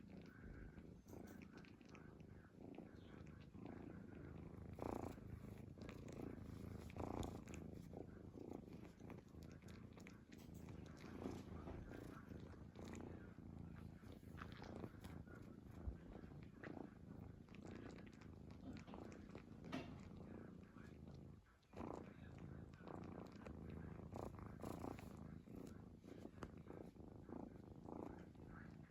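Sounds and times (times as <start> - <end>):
cat snoring quietly: 0.0 - 28.9.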